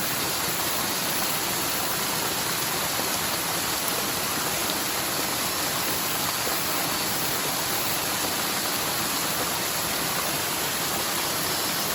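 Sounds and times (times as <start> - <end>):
stream water rushing: 0.0 - 11.9.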